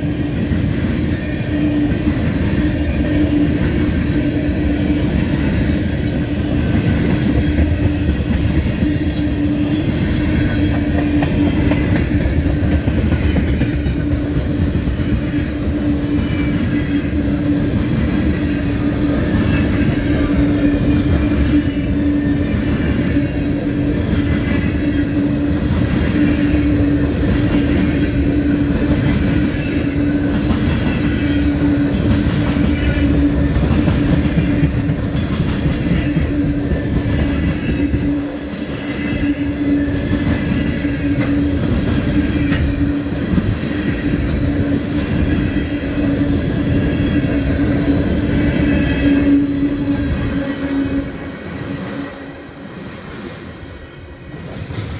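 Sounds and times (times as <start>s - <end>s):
freight train wheels rumbling on rail: 0.0s - 54.9s.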